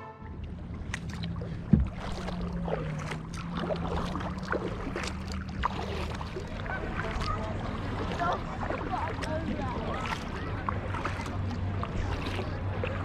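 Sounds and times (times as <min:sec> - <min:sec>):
water splashing around a kayak: 0:00.0 - 0:13.0.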